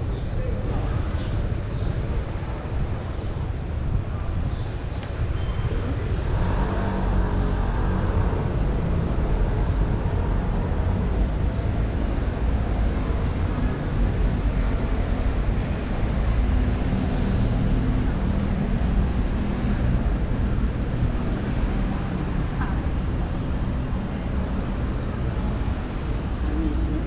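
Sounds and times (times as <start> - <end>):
vehicle engines rumbling: 0.0 - 27.0.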